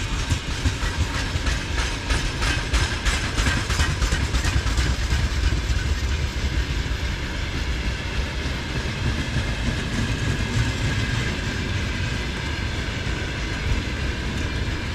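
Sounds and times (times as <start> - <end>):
freight train rumbling: 0.0 - 14.9
train wheels clacking: 0.0 - 14.9.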